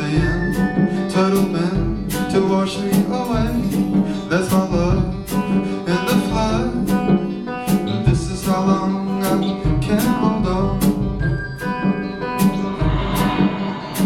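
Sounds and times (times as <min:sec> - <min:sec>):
strummed guitar with beat: 0:00.0 - 0:14.0.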